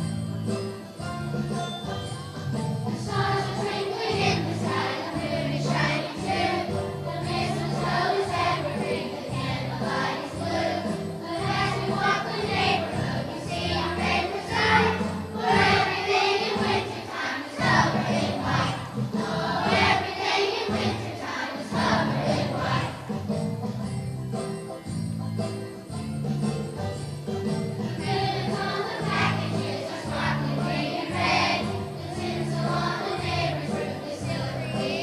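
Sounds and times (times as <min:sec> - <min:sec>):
instrumental accompaniment: 0:00.0 - 0:35.0
children's choir singing: 0:02.8 - 0:23.8, 0:27.4 - 0:35.0.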